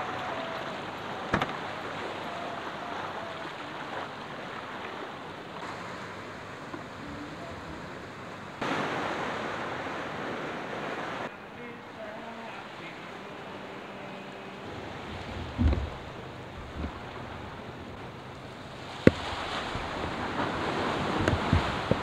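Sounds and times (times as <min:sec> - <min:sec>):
sea waves washing on shore: 0:00.0 - 0:22.0.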